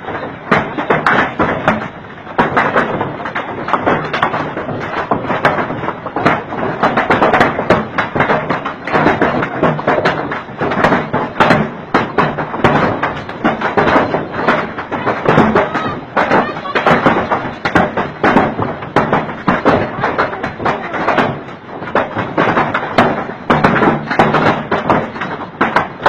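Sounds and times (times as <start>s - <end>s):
heavy rain on hard surface: 0.0s - 26.0s.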